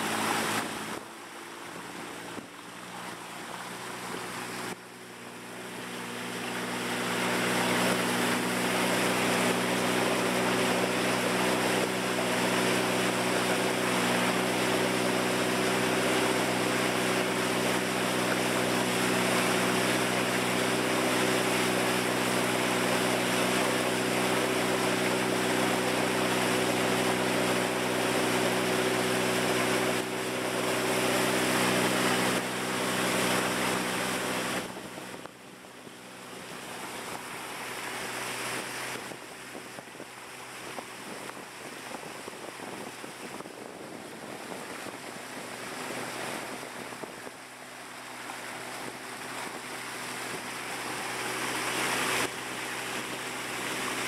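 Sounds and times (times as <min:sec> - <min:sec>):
wind on microphone: 0:00.0 - 0:35.6, 0:36.2 - 0:54.0
boat engine running: 0:00.0 - 0:54.0
water rushing along hull: 0:00.0 - 0:54.0.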